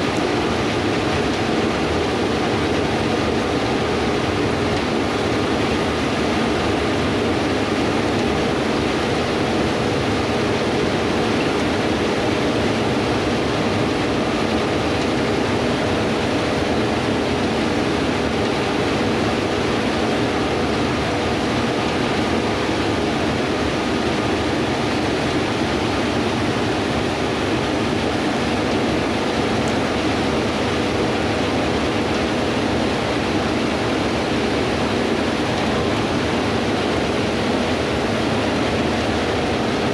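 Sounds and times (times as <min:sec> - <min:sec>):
combine harvester rushing noise: 0:00.0 - 0:39.9.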